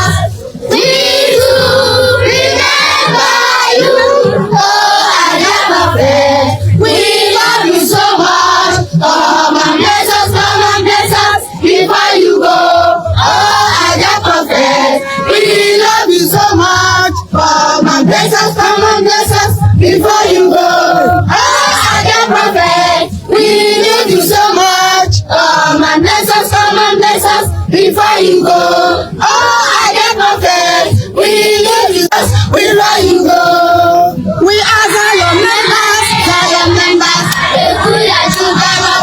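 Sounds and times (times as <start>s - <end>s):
group singing in chorus: 0.0s - 39.0s
steady low beat: 0.0s - 39.0s.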